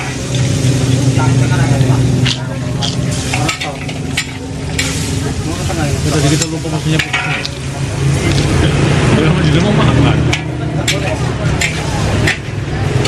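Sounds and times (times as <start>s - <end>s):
food sizzling in a wok: 0.0s - 2.2s, 3.1s - 9.1s, 10.2s - 13.0s.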